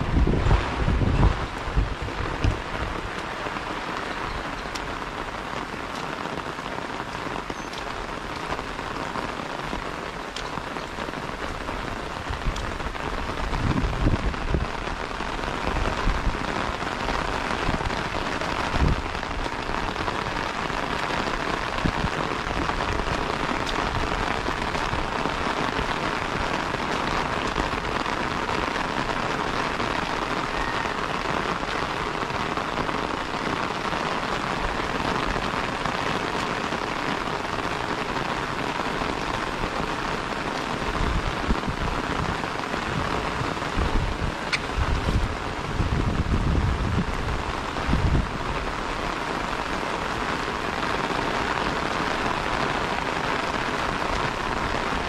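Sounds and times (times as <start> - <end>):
rain drumming on umbrella: 0.0 - 55.0.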